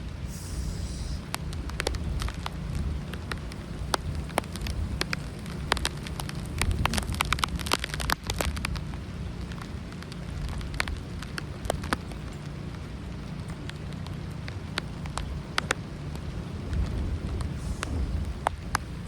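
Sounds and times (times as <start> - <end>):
low rumble: 0.0 - 19.0
rain drops tapping: 0.0 - 19.0.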